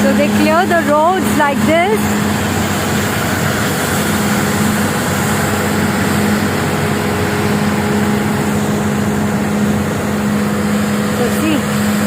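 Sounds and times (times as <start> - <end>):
suction blower rushing: 0.0 - 12.0
truck engine hum: 0.0 - 12.0.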